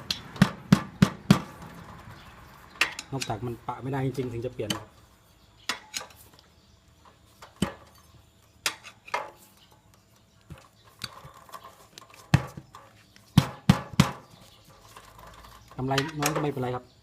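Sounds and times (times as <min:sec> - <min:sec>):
tools clanking on metal wheel rim: 0:00.0 - 0:17.0.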